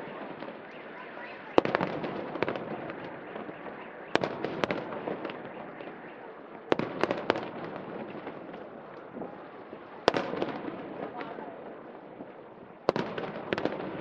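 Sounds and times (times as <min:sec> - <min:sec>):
background noise: 0:00.0 - 0:14.0
fireworks bangs: 0:00.0 - 0:14.0
fireworks crackle: 0:00.0 - 0:14.0.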